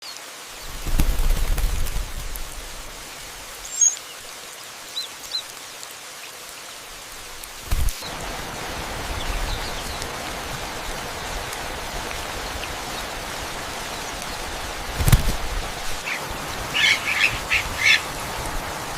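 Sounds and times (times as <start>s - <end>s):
rain-like hiss: 0.0s - 18.9s.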